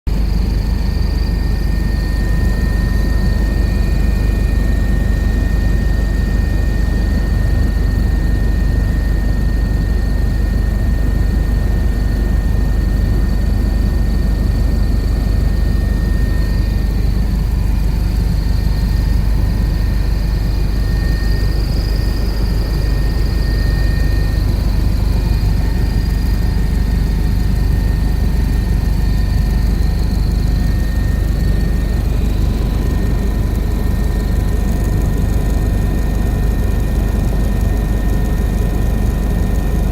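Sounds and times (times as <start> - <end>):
helicopter rotor and engine rumble: 0.1 - 39.9.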